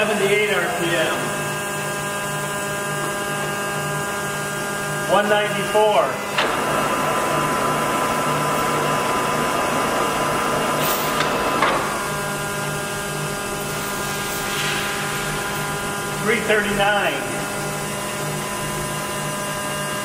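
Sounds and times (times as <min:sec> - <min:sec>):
lathe running with gear tones: 0:00.0 - 0:20.0.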